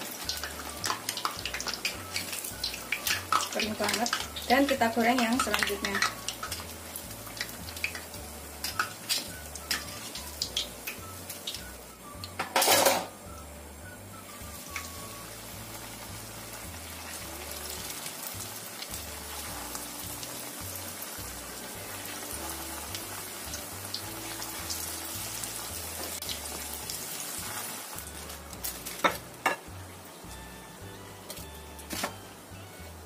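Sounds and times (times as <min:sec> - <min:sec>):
deep-frying sizzle with crackles: 0:00.0 - 0:33.0.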